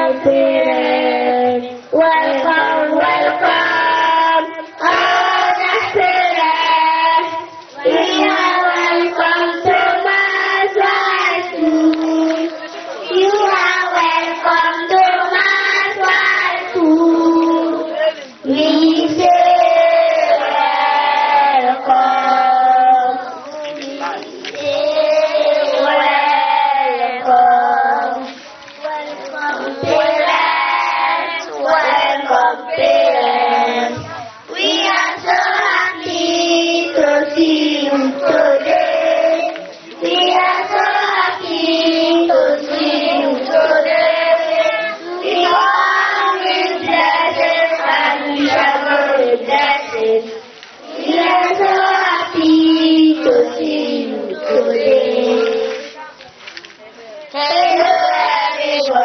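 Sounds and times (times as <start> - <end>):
young children singing: 0.0 - 56.5, 57.2 - 59.0.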